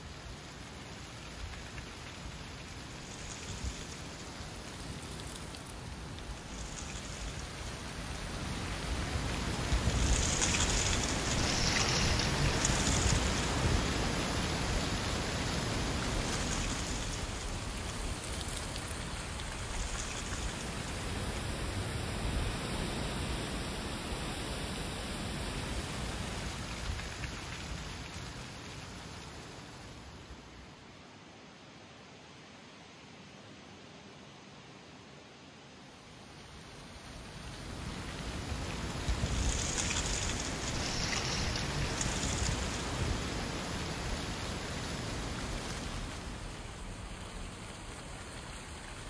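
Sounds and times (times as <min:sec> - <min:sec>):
wind gusting through trees: 0:00.0 - 0:49.0.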